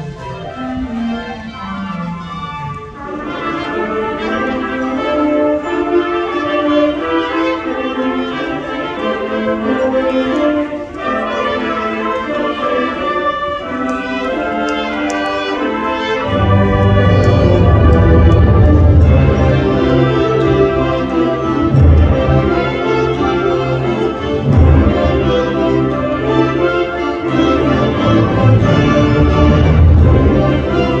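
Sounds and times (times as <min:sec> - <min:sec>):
low brass instruments: 0:00.0 - 0:31.0
wind ensemble playing slow piece: 0:00.0 - 0:31.0.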